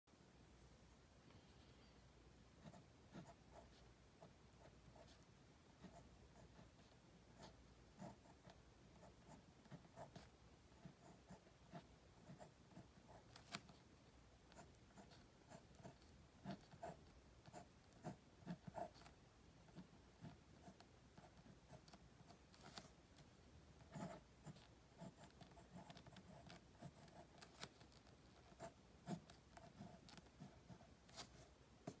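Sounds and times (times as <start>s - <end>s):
pen scratching on paper: 2.6s - 13.8s, 14.5s - 23.0s, 23.8s - 32.0s.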